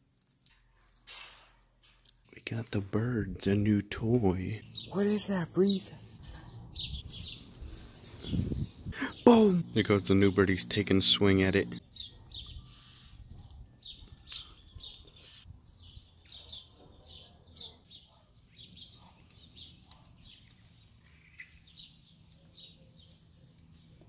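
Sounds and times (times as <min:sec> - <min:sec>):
faint bird chirps and tweets: 0:02.0 - 0:24.0.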